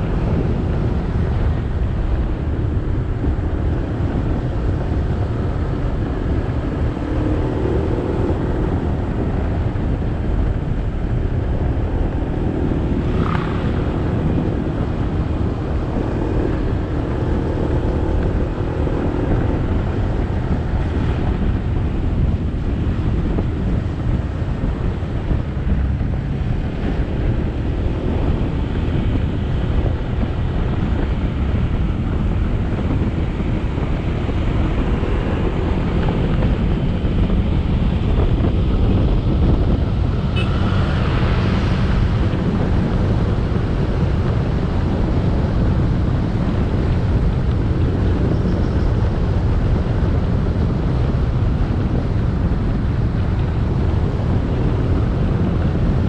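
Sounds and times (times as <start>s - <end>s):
motorbike engine rumble: 0.0s - 56.0s
wind buffeting microphone: 0.0s - 56.0s.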